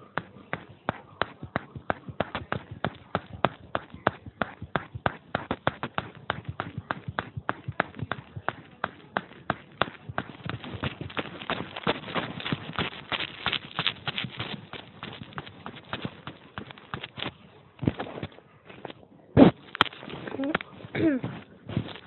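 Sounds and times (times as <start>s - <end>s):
rapid hard taps and clicks: 0.0s - 18.4s.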